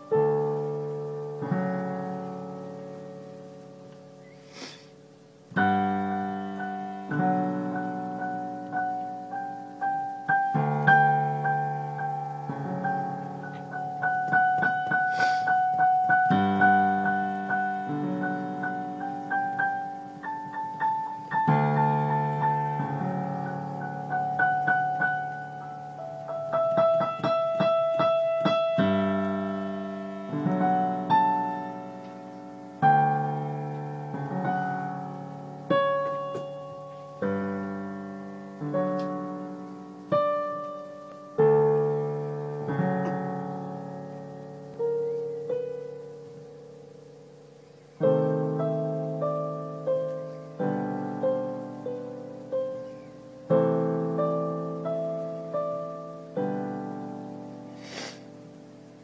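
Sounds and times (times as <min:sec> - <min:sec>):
solo piano minuet: 0:00.0 - 0:59.0.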